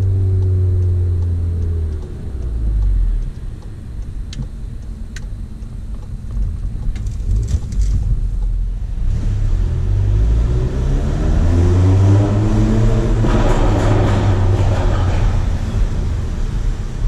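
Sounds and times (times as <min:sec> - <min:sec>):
car engine accelerating: 0:00.0 - 0:17.0
rough loud exhaust: 0:00.0 - 0:17.0.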